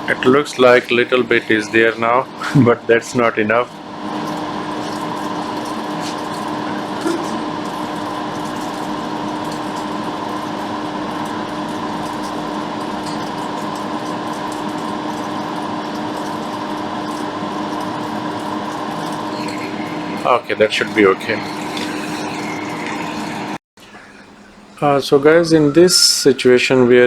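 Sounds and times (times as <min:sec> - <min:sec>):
low hum: 0:00.0 - 0:26.2
electric fan whirring: 0:00.0 - 0:27.0.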